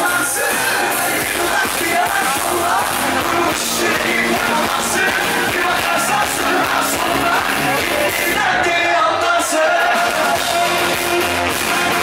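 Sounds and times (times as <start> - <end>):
drums: 0.0 - 12.0
electric guitar: 0.0 - 12.0
live pop-rock band: 0.0 - 12.0
man singing into a microphone: 0.0 - 12.0.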